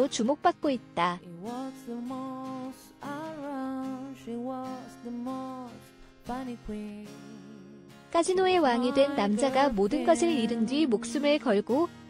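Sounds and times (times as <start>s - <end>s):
slow melodic background music: 0.0s - 12.0s.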